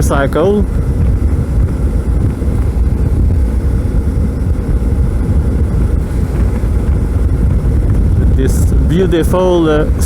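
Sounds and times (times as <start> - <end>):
motorcycle engine running: 0.0 - 10.0
wind rumble on microphone: 0.0 - 10.0.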